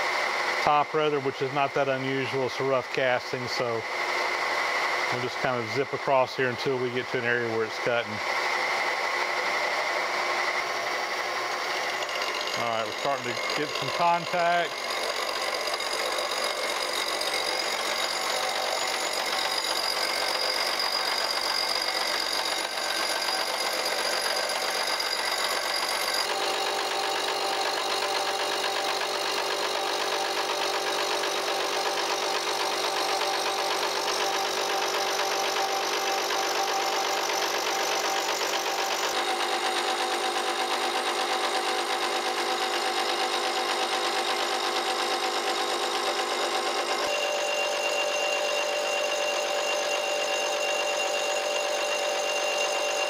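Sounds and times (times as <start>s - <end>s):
mill motor running: 0.0s - 53.0s
milling machine cutting metal: 0.0s - 53.0s.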